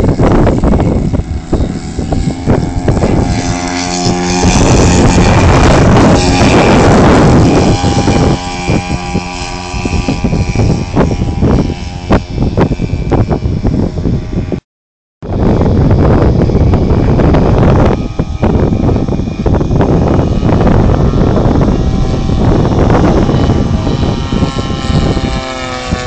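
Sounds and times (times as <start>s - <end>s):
model plane engines at full throttle: 0.0s - 14.6s, 15.2s - 26.0s
wind buffeting microphone: 0.0s - 14.6s, 15.2s - 26.0s.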